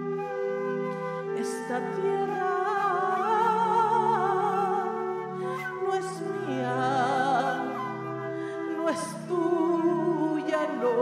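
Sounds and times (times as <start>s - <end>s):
woman singing with vibrato: 1.3s - 11.0s.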